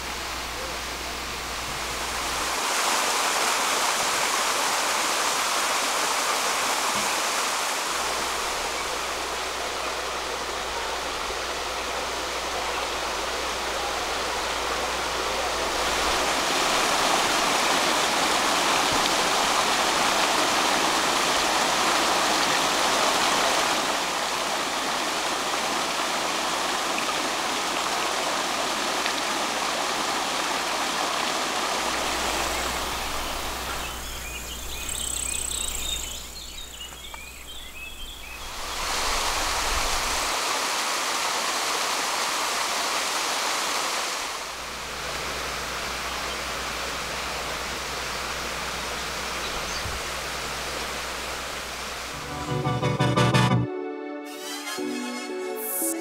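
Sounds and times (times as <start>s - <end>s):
stream running over stones: 0.0s - 52.2s.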